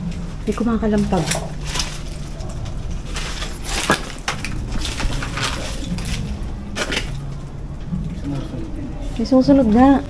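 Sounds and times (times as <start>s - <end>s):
crunching and clattering over debris: 0.0s - 8.4s.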